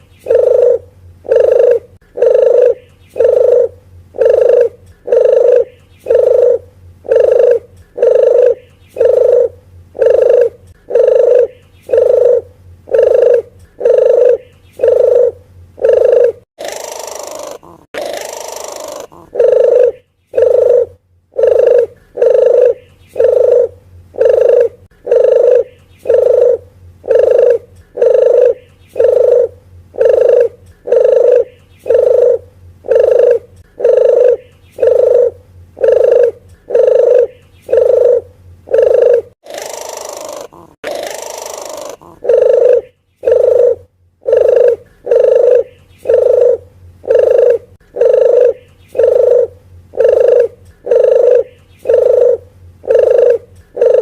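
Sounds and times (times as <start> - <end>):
dove cooing: 0.0 - 54.0
noisy hiss: 0.0 - 54.0.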